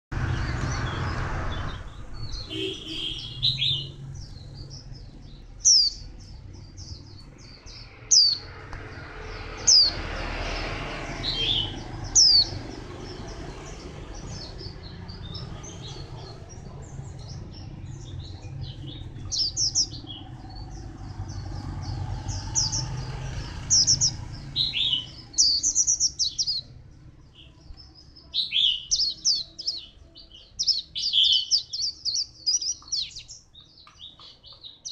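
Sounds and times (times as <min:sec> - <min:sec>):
bird singing and twittering: 0:00.2 - 0:34.9.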